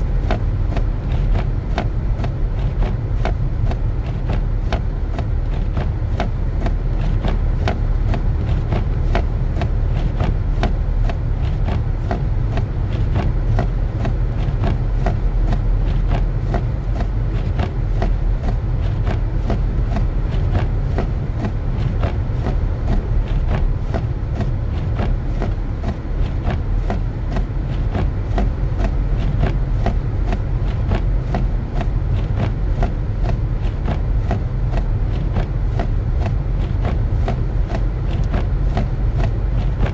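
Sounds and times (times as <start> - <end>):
car engine and tyres rumbling: 0.0 - 39.9
light ticks: 0.0 - 39.9.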